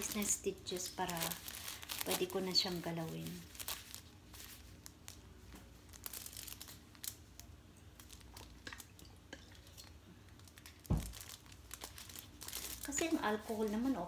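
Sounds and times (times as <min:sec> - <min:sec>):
plastic gloves crinkling: 0:00.0 - 0:14.0.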